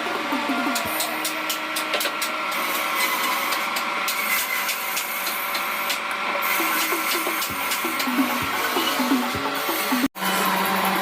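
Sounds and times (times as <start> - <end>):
woodworking power tool running: 0.0 - 11.0.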